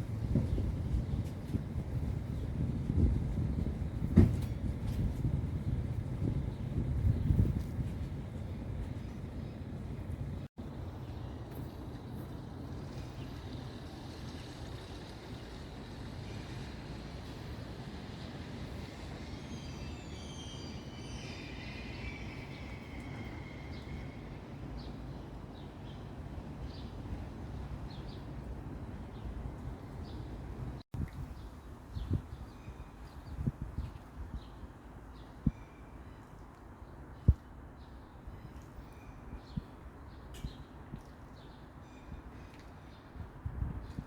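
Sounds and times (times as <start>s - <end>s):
distant city traffic rumble: 0.0s - 44.0s.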